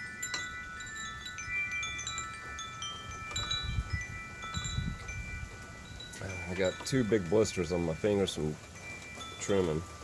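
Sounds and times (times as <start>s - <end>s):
wind chimes ringing: 0.0s - 10.0s.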